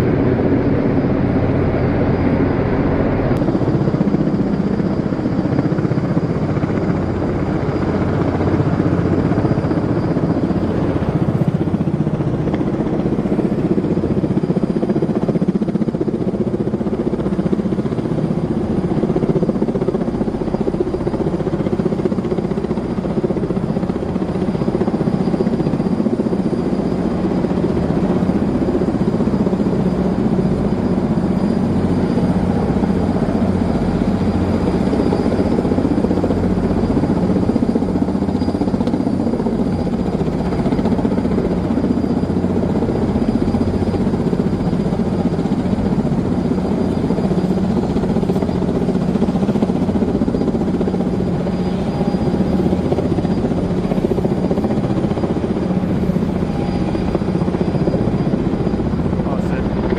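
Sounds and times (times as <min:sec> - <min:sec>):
helicopter hovering overhead: 0:00.0 - 0:59.9.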